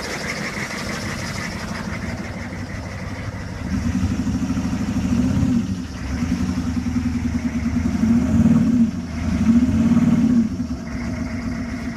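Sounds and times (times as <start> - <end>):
diesel engine misfiring: 0.0 - 11.9.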